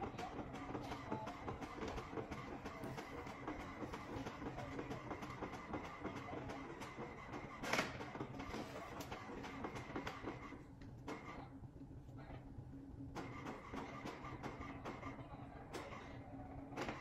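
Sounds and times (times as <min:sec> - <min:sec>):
printer humming and ticking: 0:00.0 - 0:17.0.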